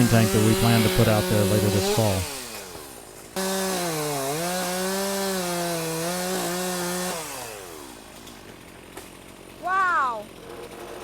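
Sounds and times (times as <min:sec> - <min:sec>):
chainsaw cutting: 0:00.0 - 0:11.0.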